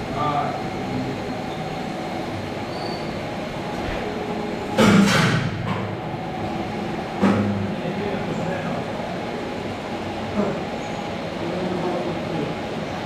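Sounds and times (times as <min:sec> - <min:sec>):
conveyor belt running: 0:00.0 - 0:13.0.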